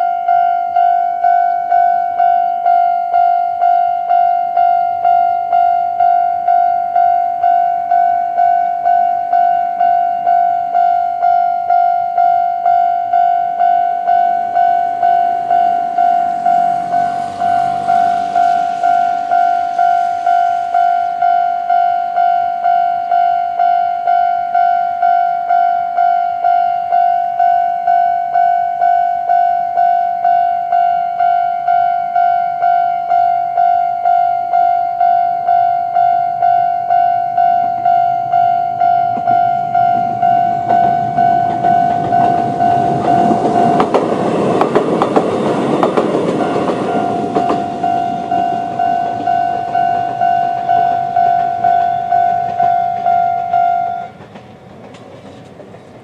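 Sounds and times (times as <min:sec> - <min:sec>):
level crossing alarm ringing: 0:00.0 - 0:54.7
train wheels passing: 0:00.0 - 0:56.0.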